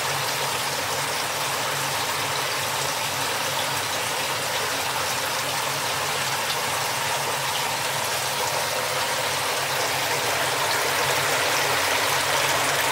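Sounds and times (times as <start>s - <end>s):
water rushing and splashing: 0.0s - 12.9s.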